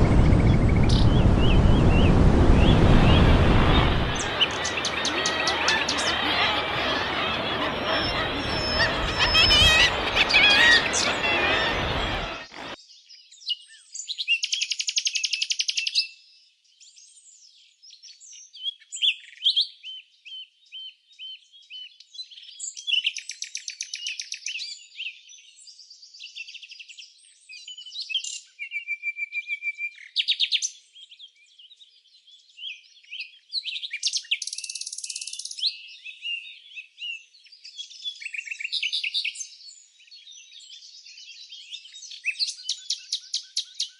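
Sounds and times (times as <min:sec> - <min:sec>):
songbirds singing: 0:00.0 - 0:43.9.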